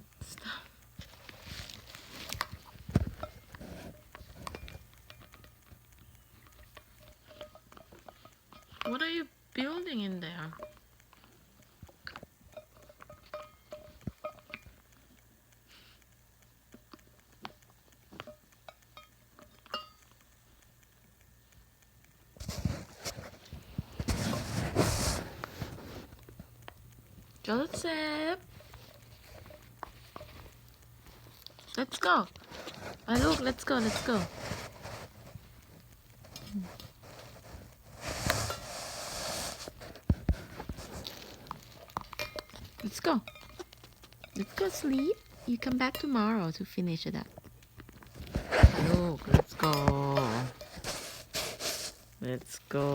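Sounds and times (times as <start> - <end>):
bird rustling and scratching: 0.2 - 46.5, 47.2 - 52.9.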